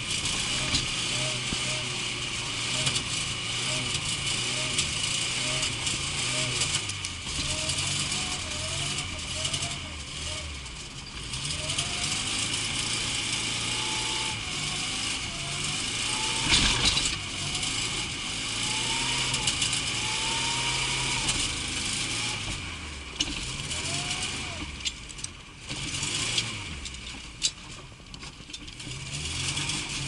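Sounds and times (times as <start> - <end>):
car engine revving: 0.0 - 27.5, 28.6 - 30.0.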